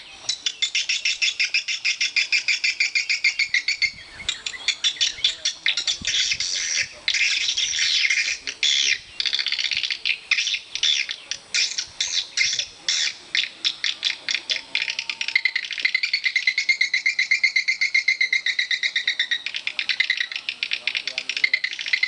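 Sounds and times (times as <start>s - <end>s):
swiftlets chirping and twittering: 0.0s - 22.0s.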